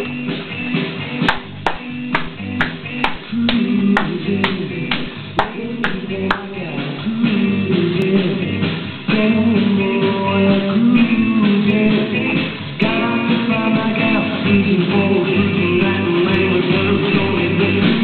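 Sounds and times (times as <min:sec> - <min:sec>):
rock and roll song: 0:00.0 - 0:18.0.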